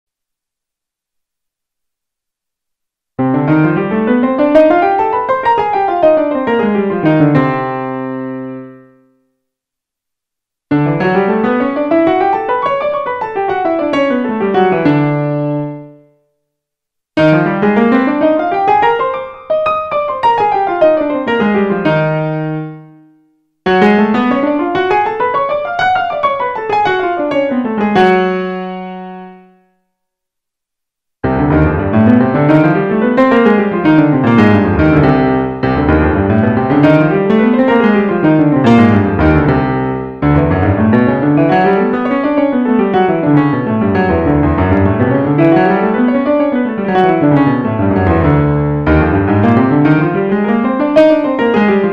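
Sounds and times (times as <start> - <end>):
piano scales on keyboard: 3.2 - 9.2, 10.7 - 16.1, 17.2 - 29.7, 31.2 - 51.9.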